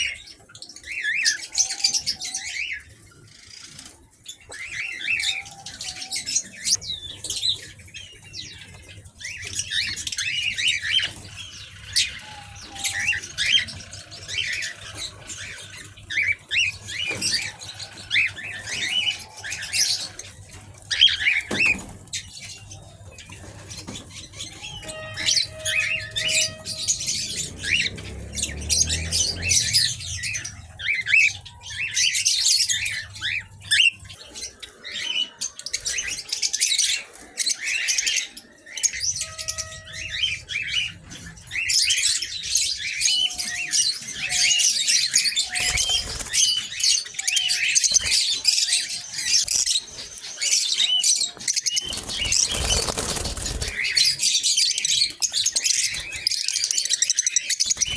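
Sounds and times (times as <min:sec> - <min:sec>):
small birds chirping and squawking: 0:00.0 - 0:57.9.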